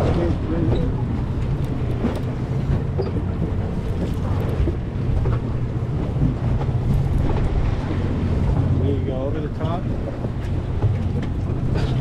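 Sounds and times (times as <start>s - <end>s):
boat engines droning: 0.0s - 12.0s
sea noise: 0.0s - 12.0s
wind buffeting microphone: 0.0s - 12.0s.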